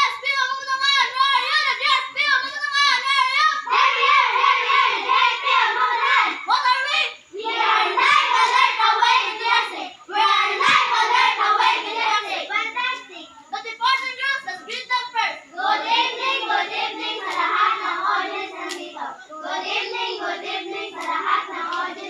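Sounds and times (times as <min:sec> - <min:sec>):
girls singing a chant: 0:00.0 - 0:22.0.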